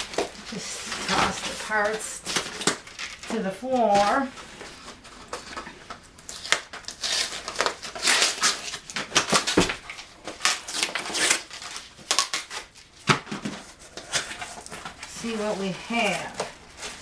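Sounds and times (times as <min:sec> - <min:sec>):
packing material rustling: 0:00.0 - 0:17.0.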